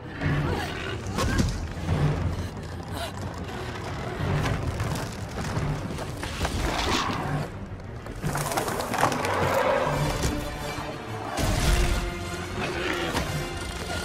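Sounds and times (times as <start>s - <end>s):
dramatic film score: 0.0s - 14.0s.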